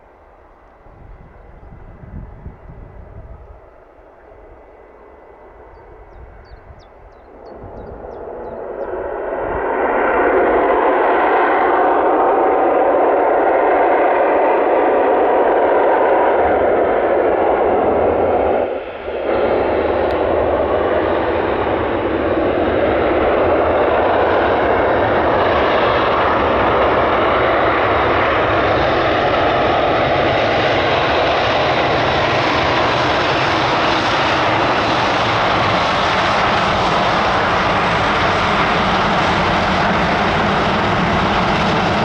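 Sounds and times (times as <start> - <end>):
jet engines rushing: 0.0 - 42.0.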